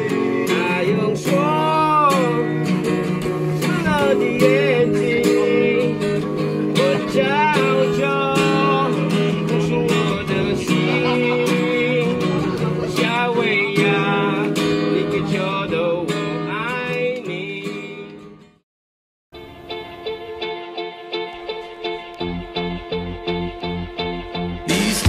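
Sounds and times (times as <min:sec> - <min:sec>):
acoustic guitar music: 0:00.0 - 0:18.6, 0:19.4 - 0:25.0.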